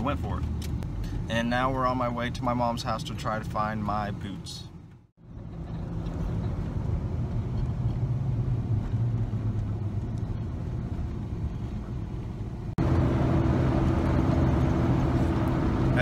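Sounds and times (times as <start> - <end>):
car engine hum: 0.0 - 16.0
road rumble: 0.0 - 16.0.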